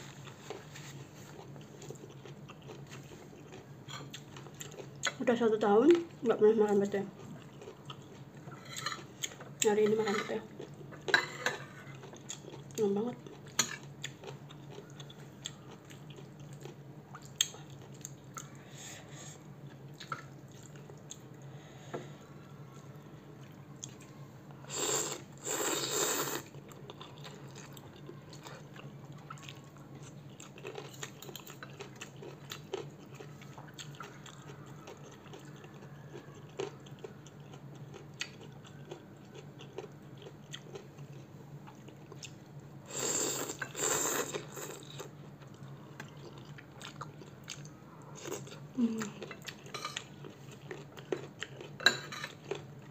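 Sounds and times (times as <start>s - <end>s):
person chewing: 0.0s - 5.2s, 7.2s - 9.6s, 10.6s - 18.6s, 22.6s - 52.9s
low steady hum: 0.0s - 52.9s.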